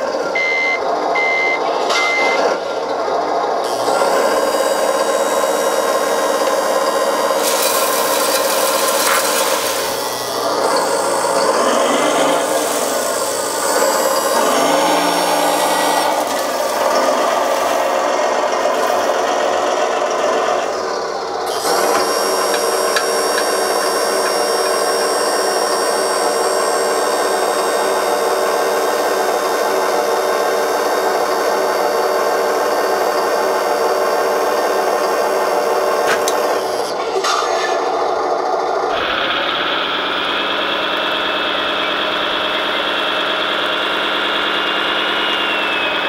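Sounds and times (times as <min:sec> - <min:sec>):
small electric pump whirring: 0:03.6 - 0:19.4, 0:21.4 - 0:37.8, 0:40.0 - 0:46.0.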